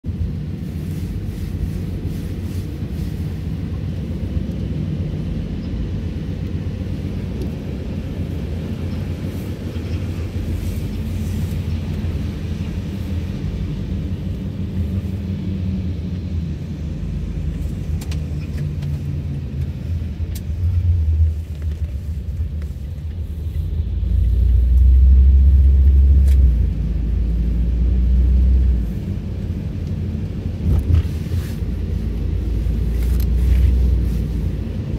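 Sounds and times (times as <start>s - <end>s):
engine and tyres rumbling: 0.0s - 34.9s.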